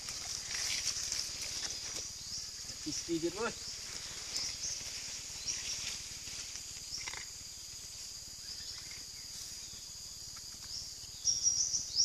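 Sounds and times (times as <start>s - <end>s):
insects droning: 0.0s - 12.0s
short insect chirps: 0.0s - 12.0s.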